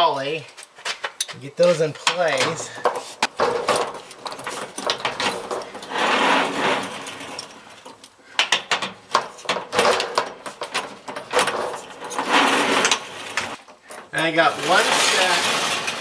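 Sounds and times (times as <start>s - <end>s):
metal trolleys clinking and rattling: 0.5s - 16.0s
trolleys rolling and scraping on track: 1.7s - 7.9s, 9.3s - 16.0s.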